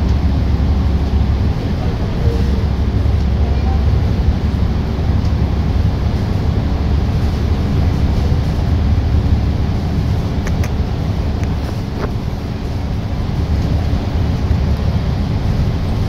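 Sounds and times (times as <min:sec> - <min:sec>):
bus engine and tyres rumbling: 0:00.0 - 0:16.0.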